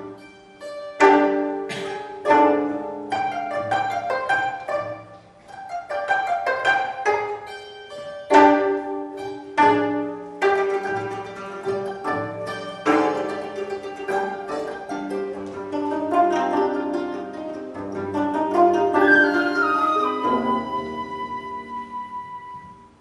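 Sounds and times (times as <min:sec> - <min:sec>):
loud plucked chords: 0:00.0 - 0:23.0
zithers plucking notes: 0:00.0 - 0:23.0.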